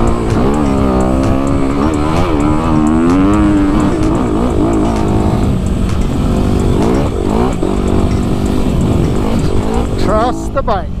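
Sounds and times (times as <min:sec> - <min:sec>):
dirt bike engine revving: 0:00.0 - 0:10.9.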